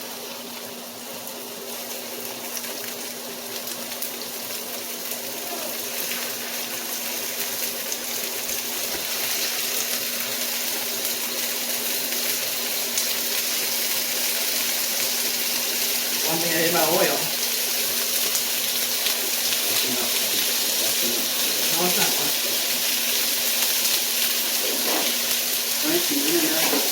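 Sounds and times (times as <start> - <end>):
chicken sizzling in hot oil: 0.0 - 26.9.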